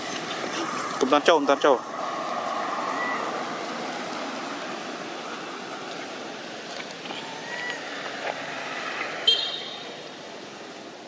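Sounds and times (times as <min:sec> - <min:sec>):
passing vehicle road noise: 0:00.0 - 0:11.0.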